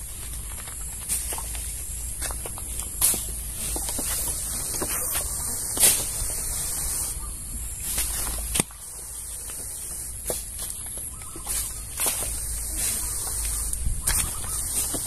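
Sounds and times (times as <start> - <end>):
garden sprayer hissing: 0.0 - 15.0.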